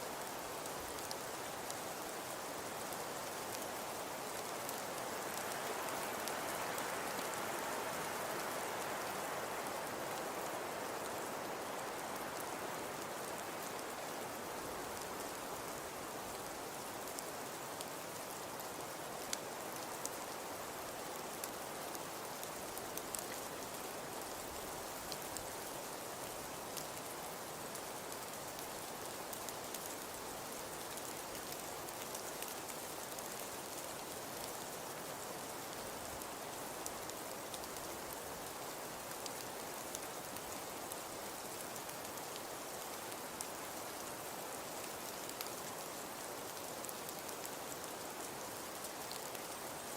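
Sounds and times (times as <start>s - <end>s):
fireplace fire crackling: 0.1s - 49.9s.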